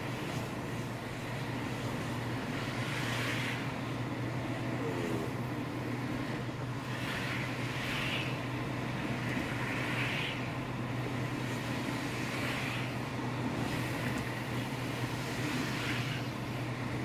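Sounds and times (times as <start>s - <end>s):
car engine and road drone: 0.0s - 17.0s
road hiss: 0.0s - 17.0s.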